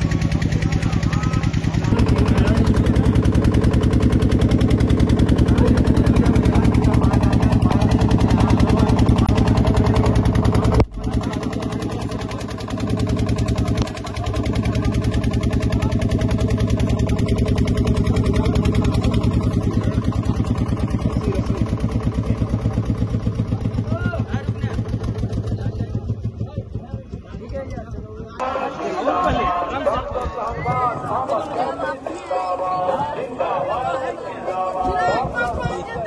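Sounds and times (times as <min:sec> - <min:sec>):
motorboat engine running: 0:00.0 - 0:36.0.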